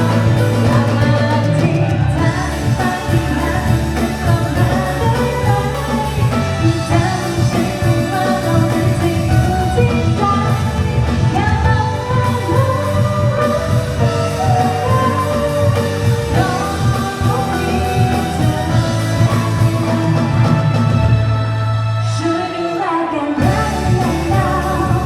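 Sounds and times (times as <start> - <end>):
band accompaniment: 0.0 - 25.0
person singing: 0.0 - 25.0.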